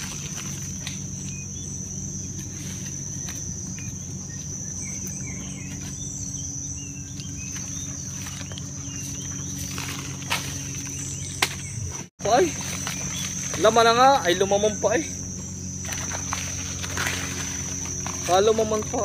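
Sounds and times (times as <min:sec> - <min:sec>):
bird chirps: 0:00.0 - 0:19.0
insects droning: 0:00.0 - 0:19.0
low steady hum: 0:00.0 - 0:19.0.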